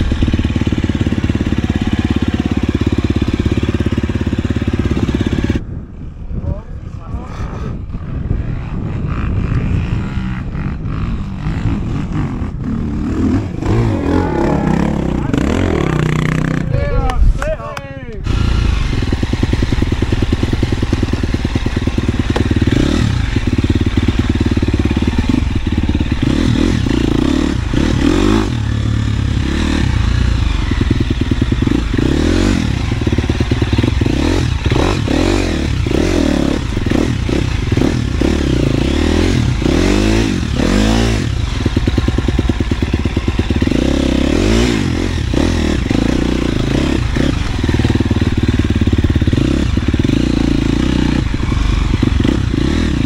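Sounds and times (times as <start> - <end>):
dirt bike engine revving: 0.0 - 5.6, 7.9 - 16.9, 18.2 - 53.0.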